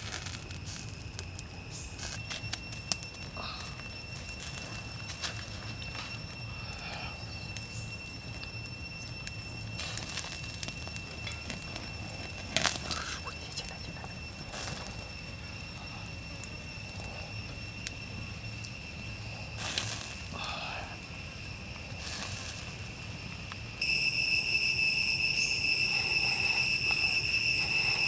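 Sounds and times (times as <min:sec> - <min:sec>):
high-pitched drone: 0:00.0 - 0:28.0
wood fire crackling and popping: 0:00.0 - 0:28.0.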